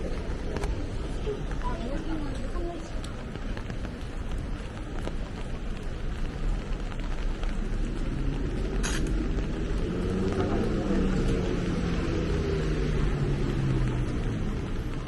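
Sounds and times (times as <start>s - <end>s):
rain: 0.0s - 15.0s
traffic noise: 0.0s - 15.0s
vehicle engine hum: 0.0s - 15.0s.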